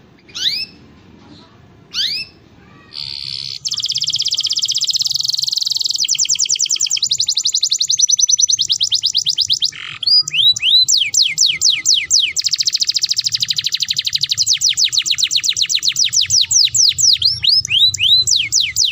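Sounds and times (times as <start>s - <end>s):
canary singing trills: 0.0s - 0.9s, 1.9s - 18.9s.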